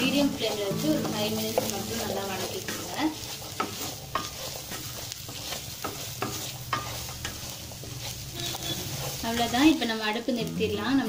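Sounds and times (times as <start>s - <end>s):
spatula scraping and clacking pan: 0.0s - 10.0s
food sizzling in oil: 0.0s - 11.0s.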